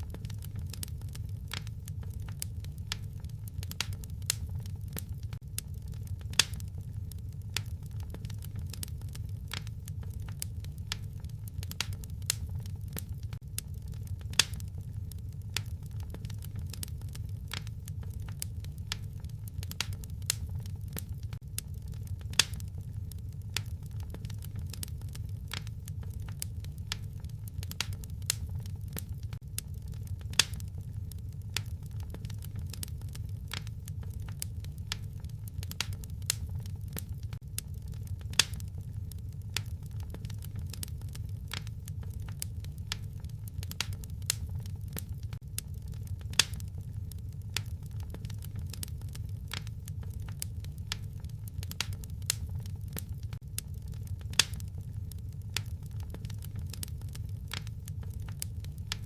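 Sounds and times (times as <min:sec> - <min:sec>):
loud pops of fire: 0:00.0 - 0:59.0
wood fire crackling: 0:00.0 - 0:59.0.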